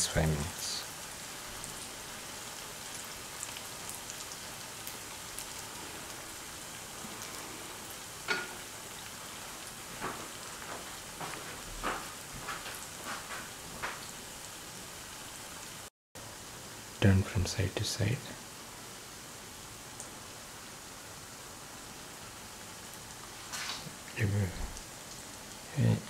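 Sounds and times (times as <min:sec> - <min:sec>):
food frying in hot oil: 0:00.2 - 0:17.0, 0:18.4 - 0:26.0.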